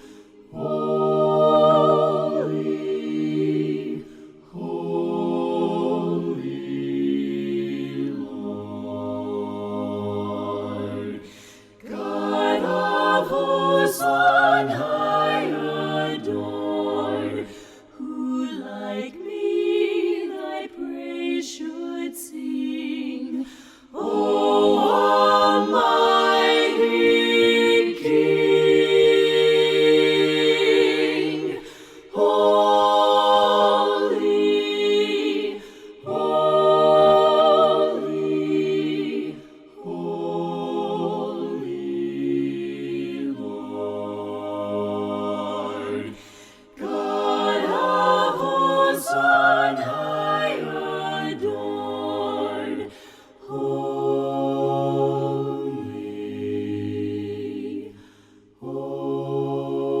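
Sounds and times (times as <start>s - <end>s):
voices singing a hymn: 0.0s - 60.0s.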